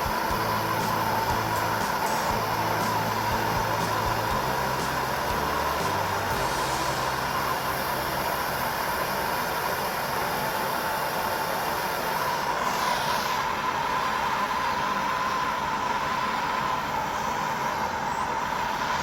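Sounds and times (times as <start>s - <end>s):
gas torch flame roaring: 0.0s - 19.0s.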